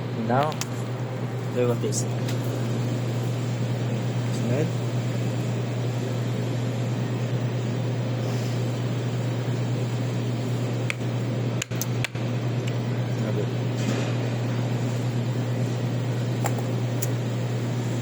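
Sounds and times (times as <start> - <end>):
low mechanical hum with hiss: 0.0 - 18.0.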